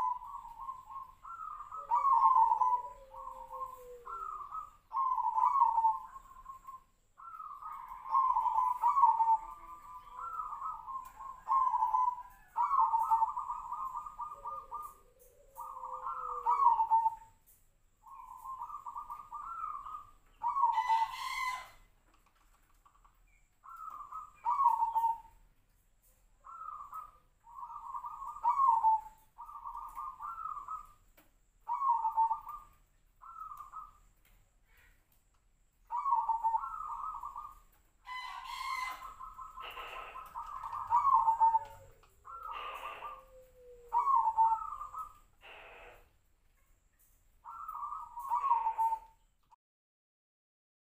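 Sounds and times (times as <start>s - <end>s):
dove cooing: 0.0s - 17.4s, 18.0s - 21.9s, 23.6s - 25.4s, 26.3s - 34.2s, 35.8s - 46.2s, 47.4s - 49.2s.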